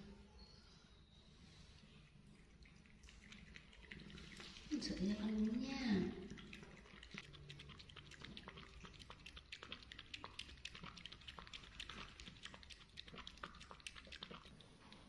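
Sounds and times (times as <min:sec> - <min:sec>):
cat lapping liquid: 0:01.8 - 0:15.0.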